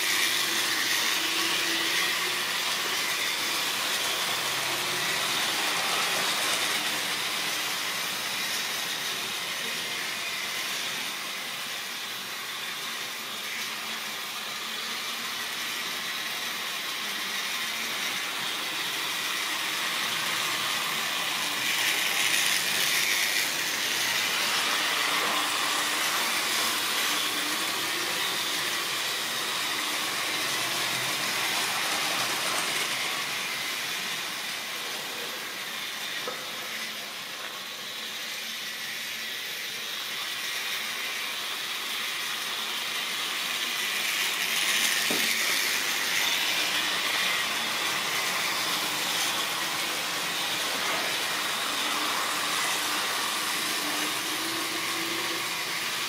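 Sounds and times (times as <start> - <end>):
model train whirring rattle: 0.0 - 56.0.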